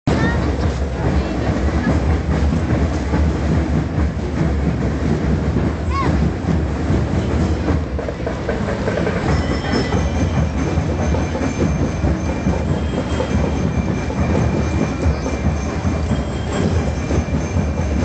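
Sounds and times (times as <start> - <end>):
street parade rumble: 0.0 - 18.0.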